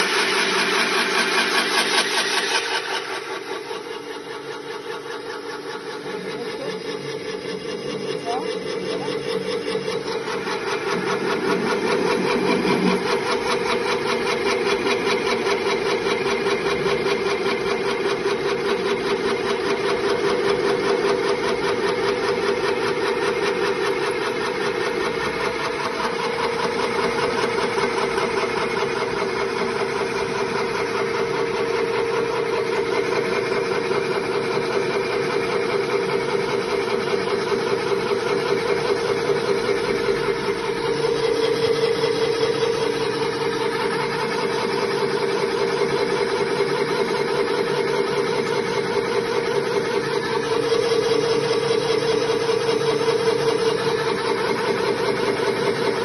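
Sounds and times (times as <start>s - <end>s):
grain mill droning: 0.0s - 56.0s.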